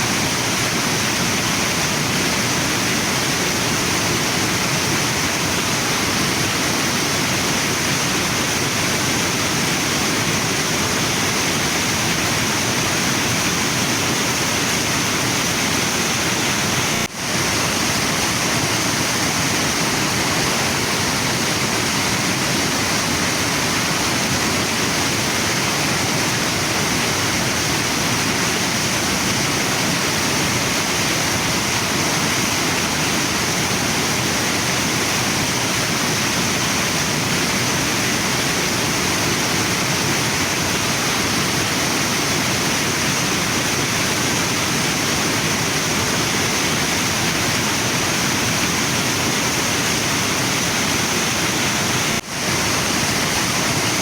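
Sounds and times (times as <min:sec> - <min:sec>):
waterfall and river rushing: 0:00.0 - 0:54.0.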